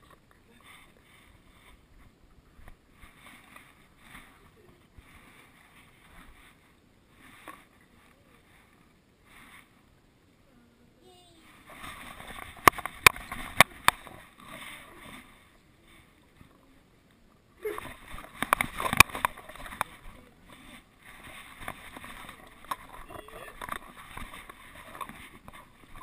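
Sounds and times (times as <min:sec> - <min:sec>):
camera rubbing and rustling: 0:00.0 - 0:09.9, 0:11.4 - 0:16.7, 0:17.6 - 0:26.0.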